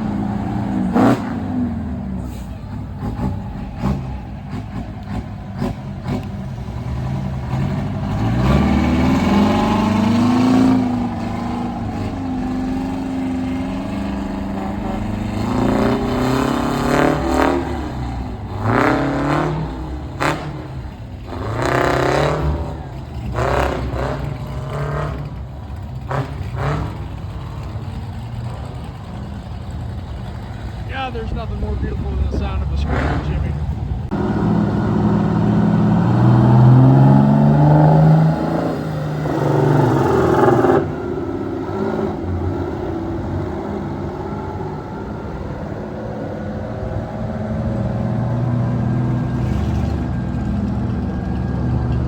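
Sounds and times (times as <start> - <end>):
truck engine revving: 0.0 - 52.0.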